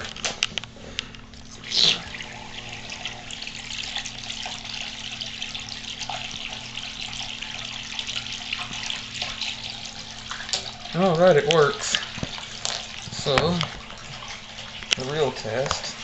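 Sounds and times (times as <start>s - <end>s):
submersible pump churning water: 1.3s - 16.0s.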